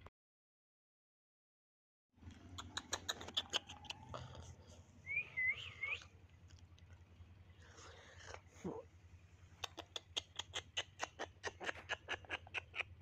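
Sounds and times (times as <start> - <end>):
bird chirp: 2.2 - 13.0.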